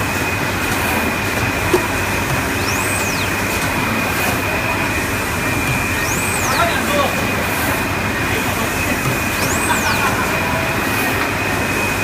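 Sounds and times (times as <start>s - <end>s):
high mechanical whine: 0.0s - 12.0s
printing machine hum: 0.0s - 12.0s.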